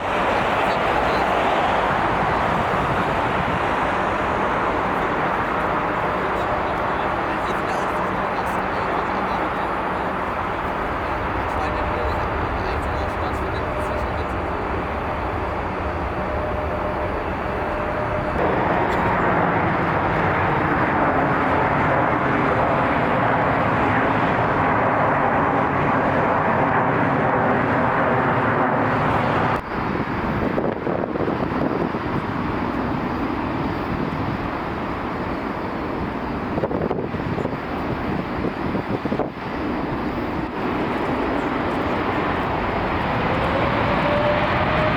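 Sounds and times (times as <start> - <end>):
jet engines at takeoff thrust: 0.0 - 44.9.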